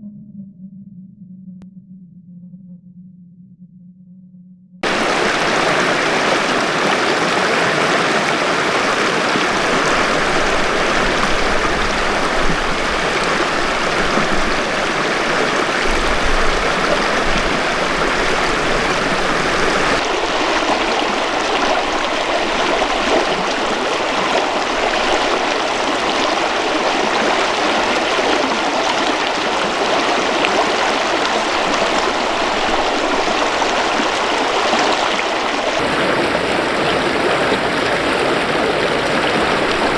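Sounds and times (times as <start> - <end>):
mountain river flowing: 4.8 - 39.9.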